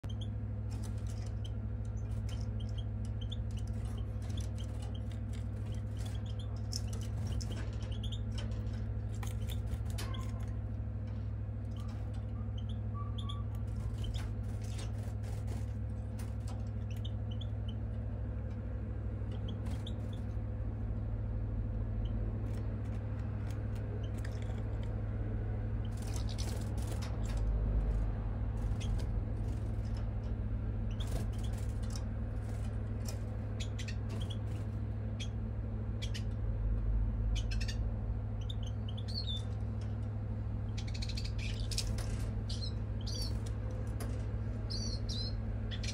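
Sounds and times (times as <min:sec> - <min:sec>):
small bird chirping: 0:00.0 - 0:18.0, 0:19.2 - 0:20.4, 0:21.9 - 0:25.1, 0:25.7 - 0:36.4, 0:37.2 - 0:40.0, 0:40.6 - 0:45.9
steady low hum: 0:00.0 - 0:45.9.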